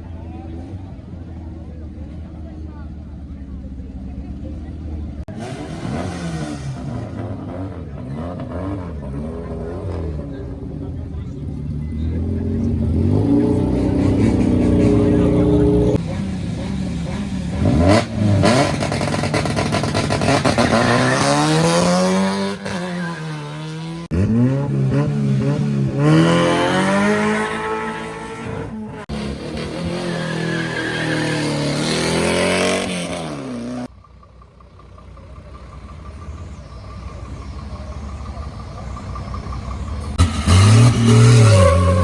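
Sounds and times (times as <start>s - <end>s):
race car engine accelerating: 5.2s - 33.9s, 36.1s - 42.0s.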